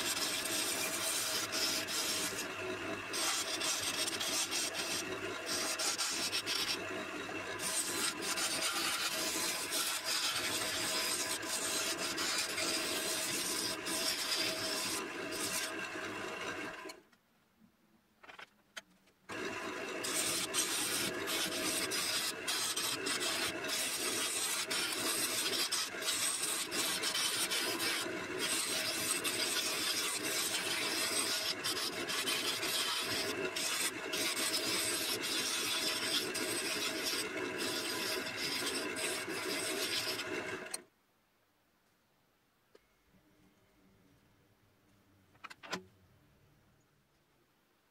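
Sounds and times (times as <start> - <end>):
gouge shearing wood on lathe: 0.0 - 17.0, 19.3 - 40.8.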